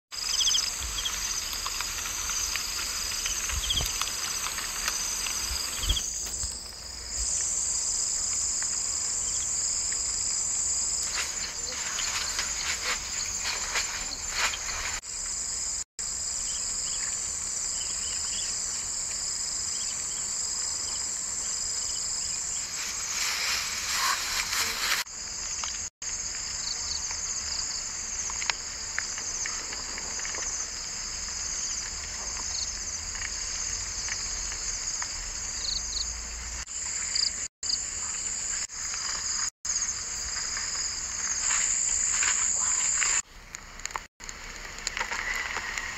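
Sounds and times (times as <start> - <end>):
insects chirring: 0.1 - 45.9
rustling through brush and grass: 0.2 - 15.8, 22.2 - 26.7, 28.6 - 45.9.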